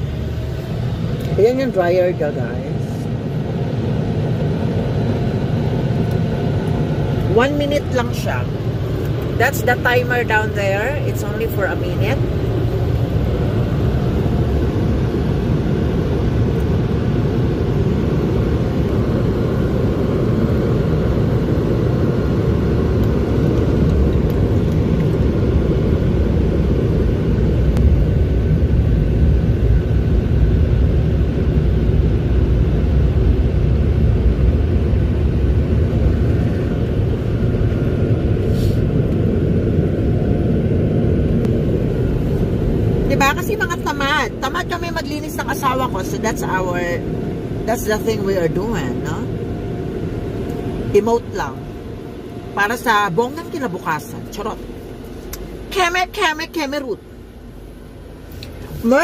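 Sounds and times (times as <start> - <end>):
car wash dryer blowers: 0.0 - 56.9, 58.0 - 59.0
faint steady whine: 0.0 - 59.0.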